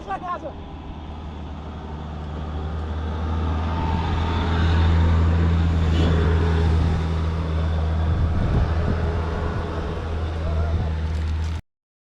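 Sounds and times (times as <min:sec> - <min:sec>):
vehicle engine humming: 0:00.0 - 0:11.6.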